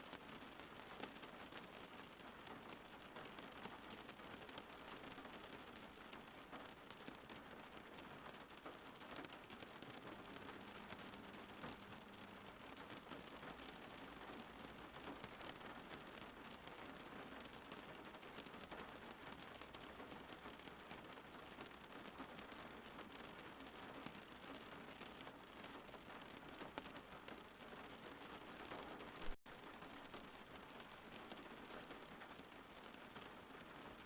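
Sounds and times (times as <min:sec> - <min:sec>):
rain hiss and patter: 0:00.0 - 0:34.0.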